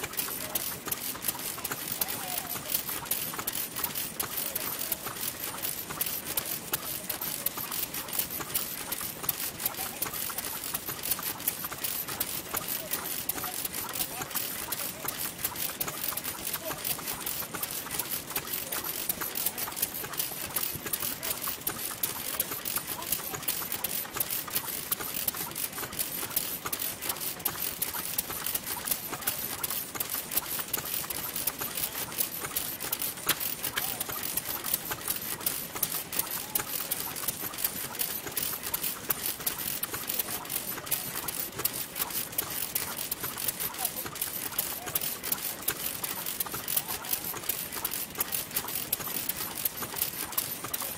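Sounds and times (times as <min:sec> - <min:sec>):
other stationary engines running: 0:00.0 - 0:50.9
stationary engine clattering: 0:00.0 - 0:50.9.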